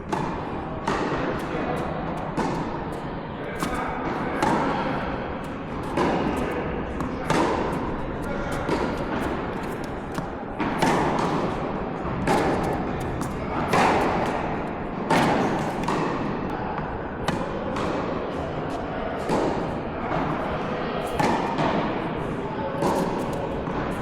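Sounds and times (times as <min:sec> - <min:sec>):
tennis racket hitting ball: 0:00.0 - 0:20.4, 0:21.0 - 0:24.0
footwork clicks and ball bounces: 0:00.0 - 0:24.0.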